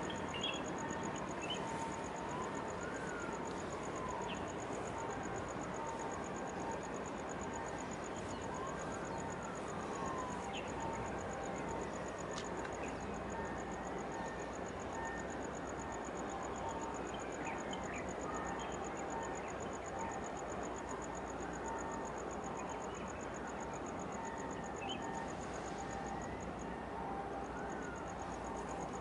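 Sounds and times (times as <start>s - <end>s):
hiss of wind and water: 0.0s - 29.0s
insect chirping: 0.0s - 29.0s.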